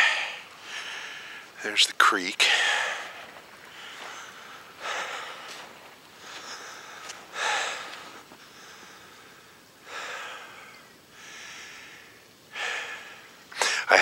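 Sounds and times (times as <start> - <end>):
man breathing heavily: 0.0 - 1.6, 2.4 - 14.0.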